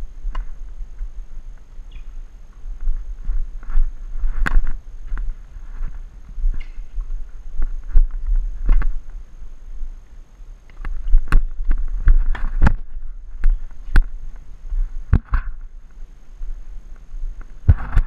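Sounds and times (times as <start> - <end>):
wind buffeting microphone: 0.0 - 10.0, 10.8 - 18.0.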